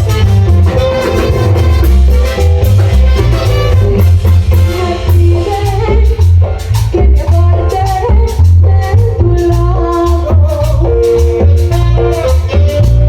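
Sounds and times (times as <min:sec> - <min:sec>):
heavy bass beat: 0:00.0 - 0:13.0
live latin dance band: 0:00.0 - 0:13.0.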